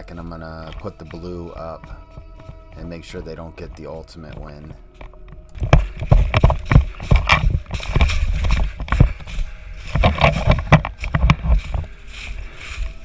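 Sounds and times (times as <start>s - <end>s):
gear rustling against camera: 0.0s - 13.0s
running footsteps: 0.0s - 13.0s.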